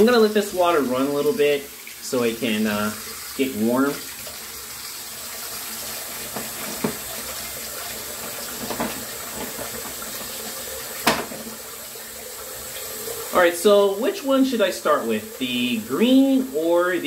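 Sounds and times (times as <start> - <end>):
sink tap running: 0.0 - 17.0.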